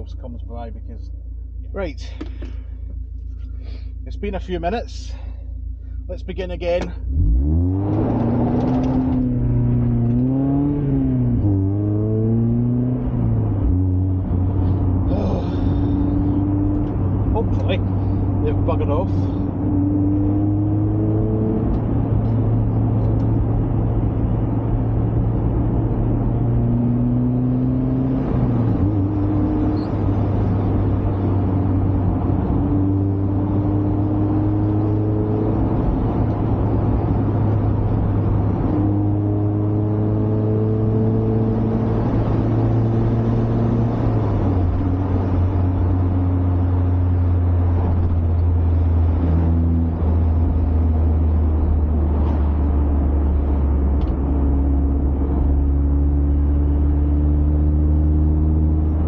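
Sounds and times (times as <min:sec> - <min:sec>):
car engine running: 0:00.0 - 0:59.0
tyre and road noise: 0:06.4 - 0:59.0.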